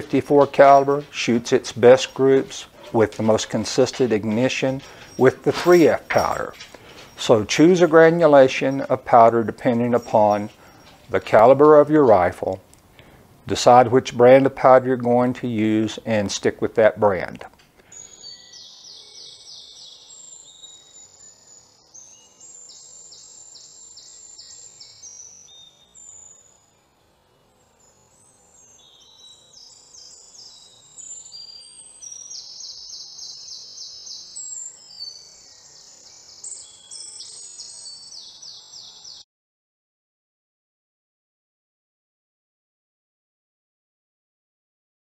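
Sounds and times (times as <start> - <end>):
birds trilling and chirping: 0.0 - 39.2.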